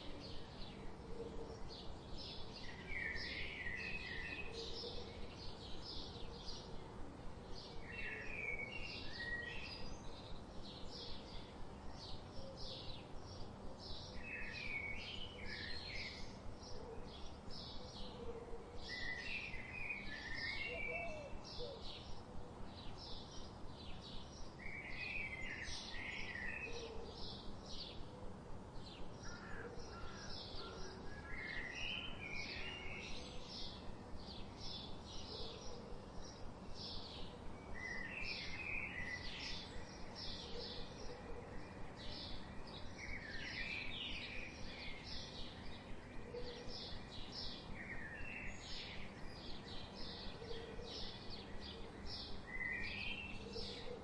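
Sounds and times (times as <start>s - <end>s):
low background hiss: 0.0s - 54.0s.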